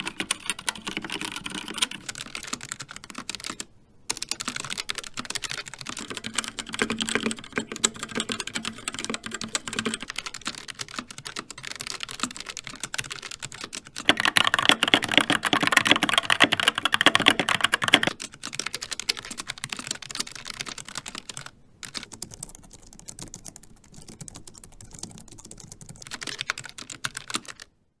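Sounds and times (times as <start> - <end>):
mechanical keyboard typing: 0.0 - 27.7.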